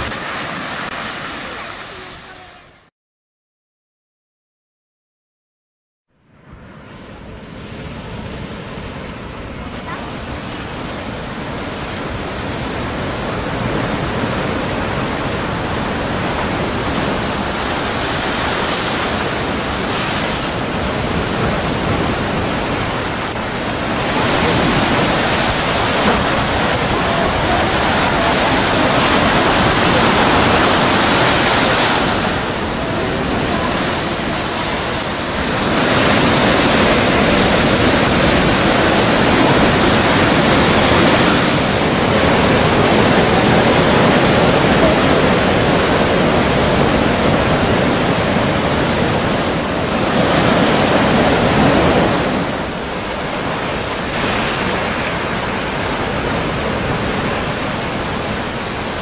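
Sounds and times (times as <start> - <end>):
strong wind: 0.0 - 2.9, 6.2 - 59.0
surf: 0.0 - 2.9, 6.5 - 59.0.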